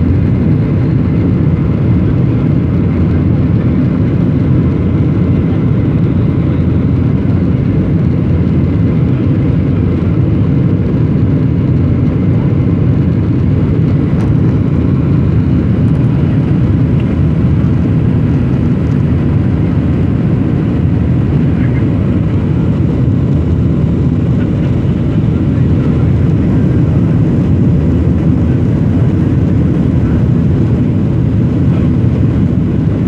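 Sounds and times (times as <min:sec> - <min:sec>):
jet engines in aircraft cabin: 0:00.0 - 0:33.0.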